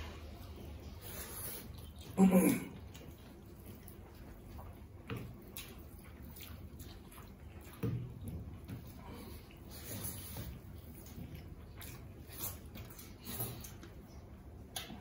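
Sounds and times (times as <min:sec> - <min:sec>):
chewing: 0:00.1 - 0:15.0.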